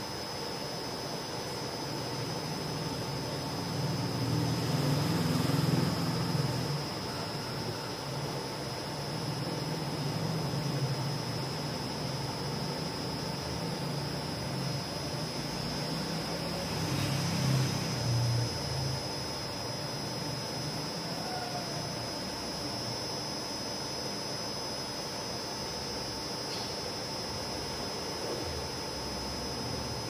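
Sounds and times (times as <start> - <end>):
machine high whine: 0.0 - 30.0.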